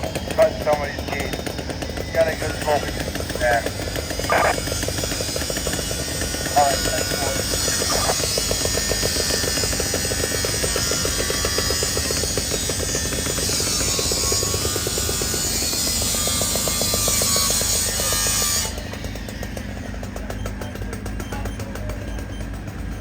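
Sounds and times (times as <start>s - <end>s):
power saw grinding metal: 0.0s - 21.2s.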